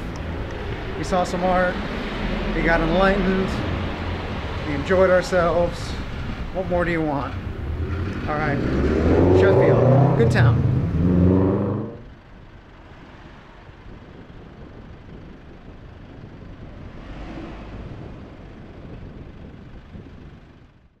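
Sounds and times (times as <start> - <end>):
vehicle passing: 0.0 - 14.0, 16.5 - 20.0
road traffic hum: 0.0 - 21.0.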